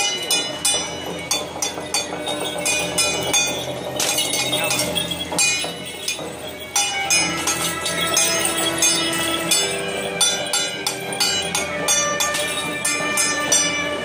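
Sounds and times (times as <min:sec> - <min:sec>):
metal cymbals and gongs clanging: 0:00.0 - 0:14.0.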